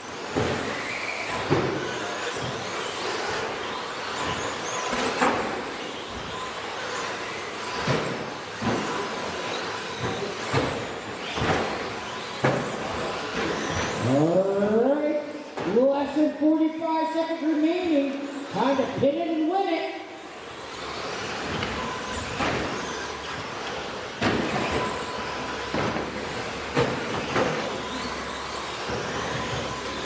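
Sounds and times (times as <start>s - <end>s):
rc truck motor whine: 0.0s - 15.6s, 16.6s - 19.4s, 20.0s - 30.0s.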